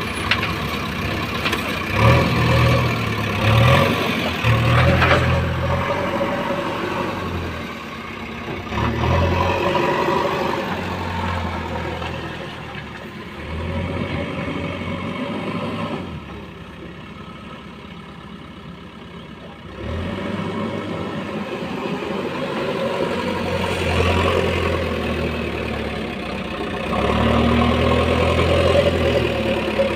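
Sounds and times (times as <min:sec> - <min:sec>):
heavy diesel engine revving: 0:00.0 - 0:16.9, 0:19.6 - 0:29.9.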